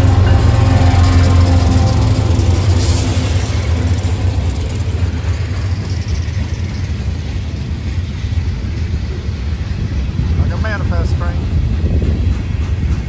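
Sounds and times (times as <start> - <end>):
diesel locomotive drone: 0.0 - 13.0
train wheels rumbling on rails: 0.0 - 13.0.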